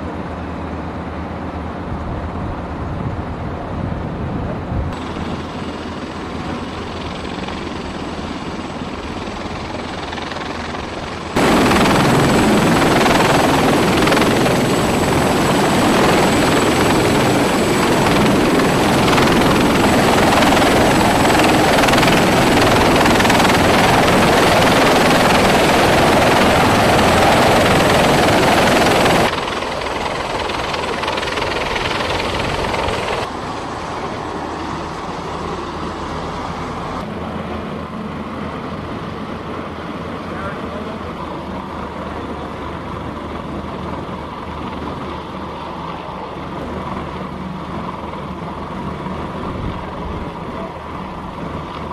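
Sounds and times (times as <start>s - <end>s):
helicopter rotor and turbine noise: 0.0s - 51.9s.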